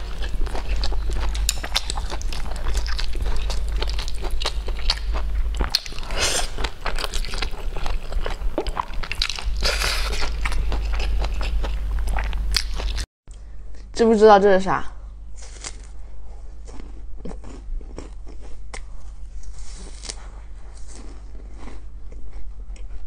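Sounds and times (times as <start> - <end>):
biting and chewing: 0.0 - 13.1, 15.4 - 23.0.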